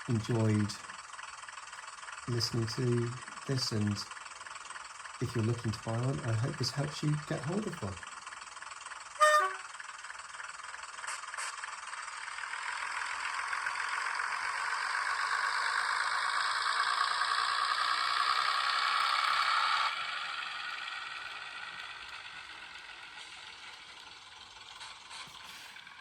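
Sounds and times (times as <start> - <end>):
model train diesel running sound: 0.0 - 26.0
model train mechanism noise: 0.0 - 26.0.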